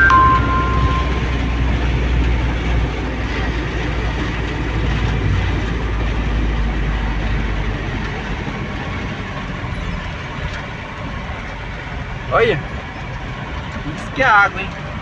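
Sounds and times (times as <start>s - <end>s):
diesel engine running: 0.0s - 15.0s
tyres on a flooded road: 0.0s - 15.0s.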